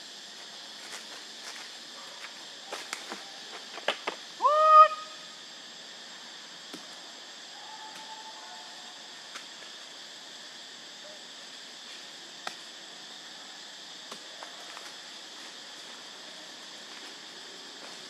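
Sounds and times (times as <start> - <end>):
insects calling: 0.0 - 18.0.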